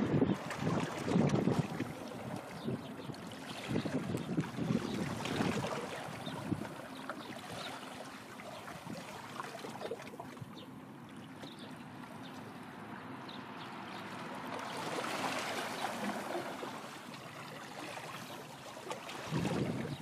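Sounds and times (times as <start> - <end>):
small waves lapping: 0.0 - 20.0.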